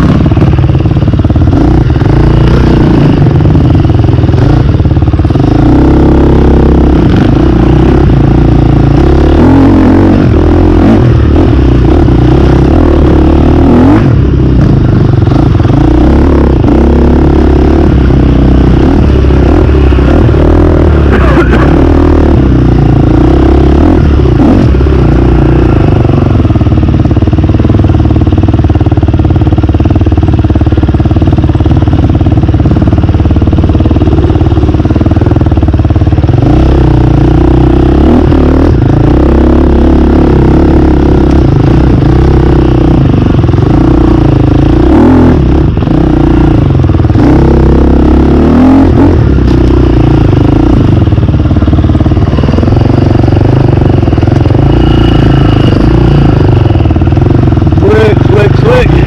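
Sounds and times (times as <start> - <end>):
dirt bike engine revving: 0.0 - 28.7, 35.6 - 59.0.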